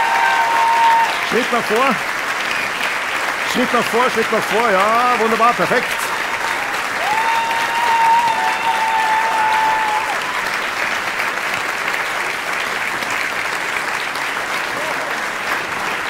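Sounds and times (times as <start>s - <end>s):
large audience applauding: 0.0s - 16.0s.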